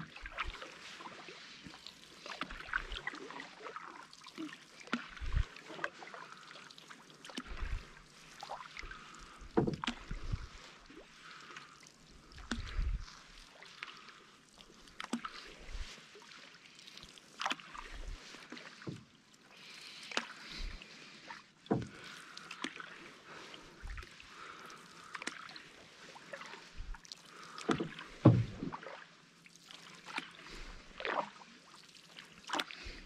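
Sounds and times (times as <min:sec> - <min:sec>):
canoe paddle strokes: 0:00.0 - 0:33.0
water splashes and drips: 0:00.0 - 0:33.0.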